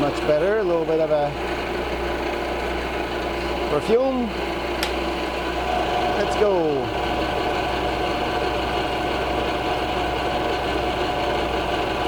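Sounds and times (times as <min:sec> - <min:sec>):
milling machine hum and whine: 0:00.0 - 0:12.0.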